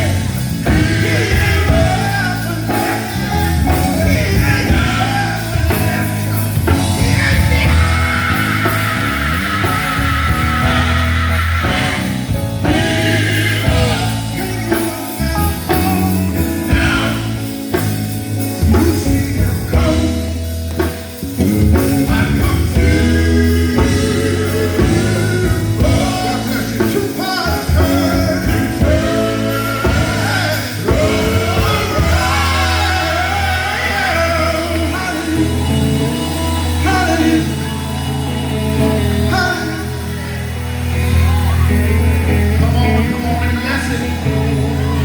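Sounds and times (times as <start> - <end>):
band with held bass line: 0.0 - 45.0
gospel vocal group singing: 0.0 - 45.0.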